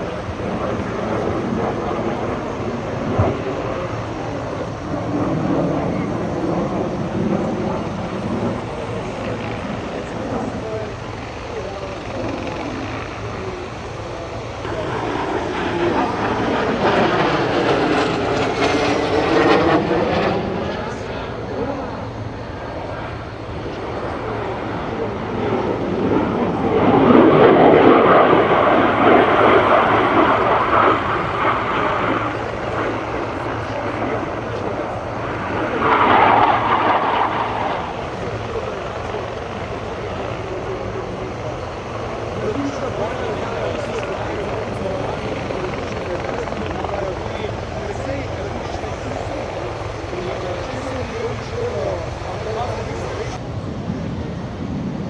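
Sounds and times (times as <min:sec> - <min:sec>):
jet engines overhead: 0:00.0 - 0:55.0.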